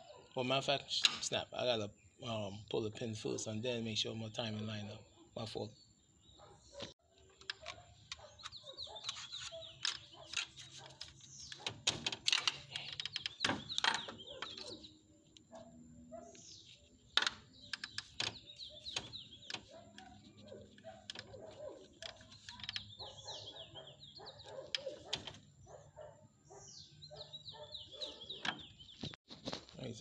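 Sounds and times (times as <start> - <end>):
birds chirping: 0.0 - 29.2.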